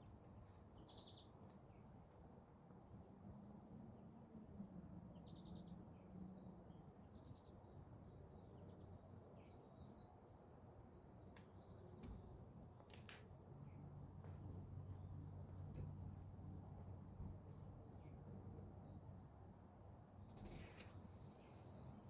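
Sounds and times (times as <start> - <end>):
faint birds chirping: 0.0 - 3.4, 5.0 - 22.0.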